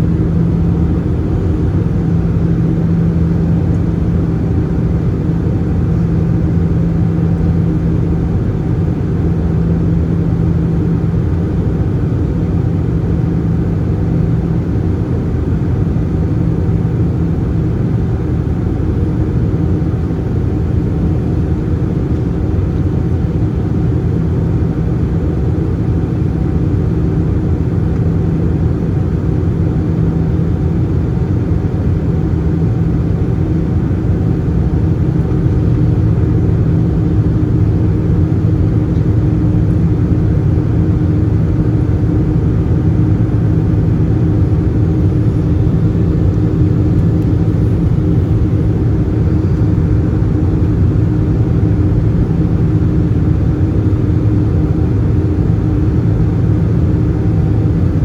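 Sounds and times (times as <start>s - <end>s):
airplane cabin drone: 0.0s - 58.0s.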